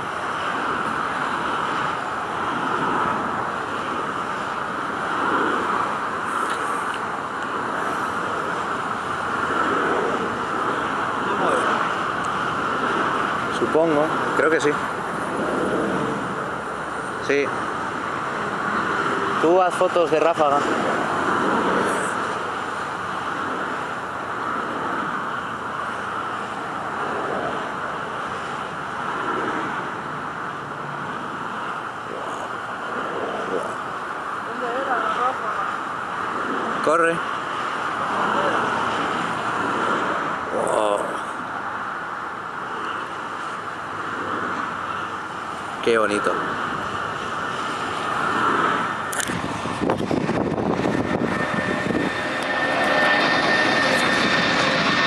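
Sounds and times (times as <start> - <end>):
distant jet engines at takeoff: 0.0 - 55.0.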